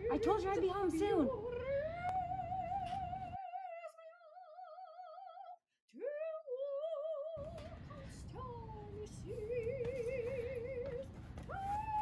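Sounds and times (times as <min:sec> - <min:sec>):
woman singing operatically: 0:00.0 - 0:12.0.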